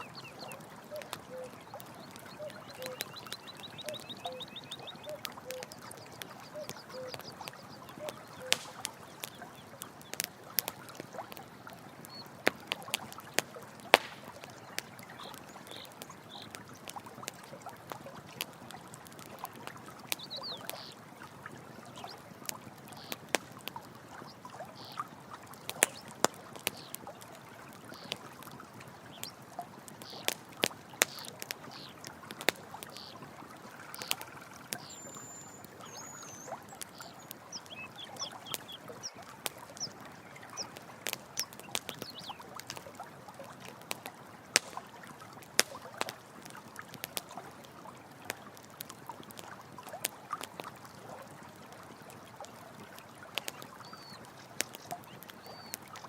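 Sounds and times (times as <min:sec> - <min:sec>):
campfire crackling and popping: 0:00.0 - 0:56.0
running water: 0:00.0 - 0:56.0.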